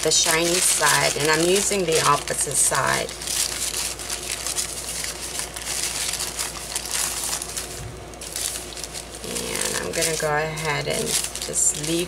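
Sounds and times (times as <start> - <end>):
waxed paper crinkling: 0.0 - 12.0.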